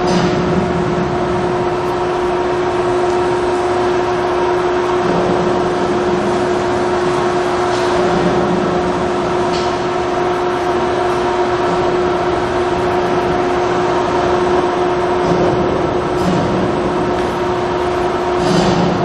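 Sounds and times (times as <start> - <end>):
mixer machine humming and whining: 0.0 - 19.0.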